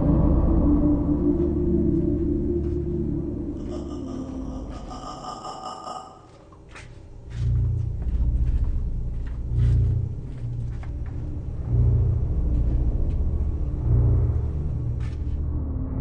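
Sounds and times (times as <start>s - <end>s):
low ominous rumbling drone: 0.0s - 16.0s.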